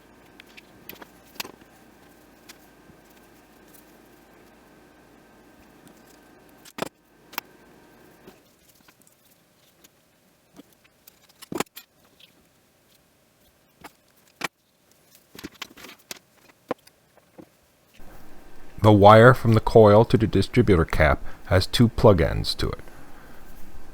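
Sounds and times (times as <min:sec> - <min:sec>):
faint background hum: 0:00.0 - 0:23.9.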